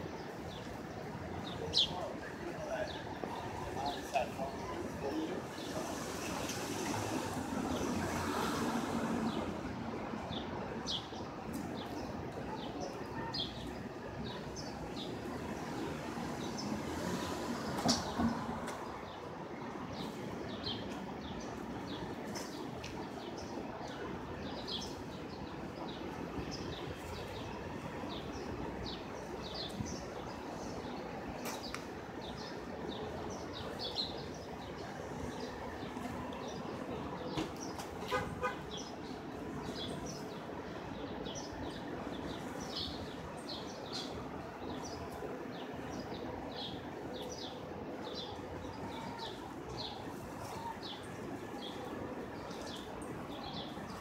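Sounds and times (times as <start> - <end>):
street noise hum: 0.0 - 54.0
traffic rumble: 0.0 - 54.0.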